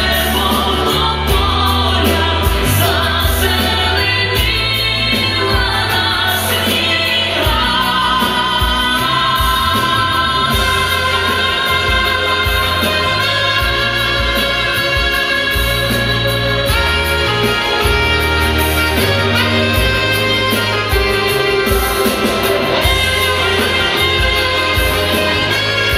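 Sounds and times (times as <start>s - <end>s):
person singing: 0.0s - 25.9s
pop backing music with steady beat: 0.0s - 25.9s.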